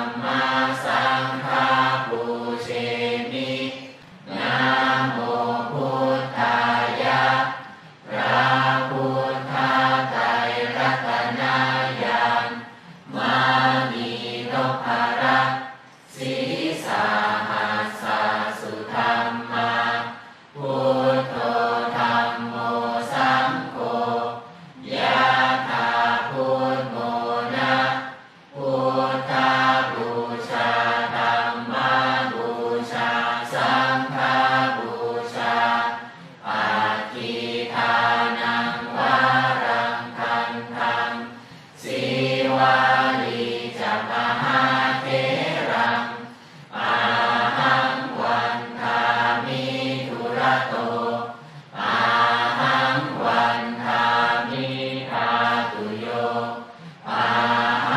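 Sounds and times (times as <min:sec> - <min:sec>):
voices chanting together: 0:00.0 - 0:57.9.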